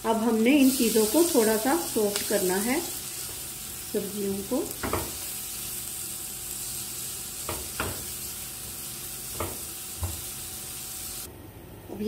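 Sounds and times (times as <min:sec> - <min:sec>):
vegetables sizzling in a pan: 0:00.0 - 0:11.3.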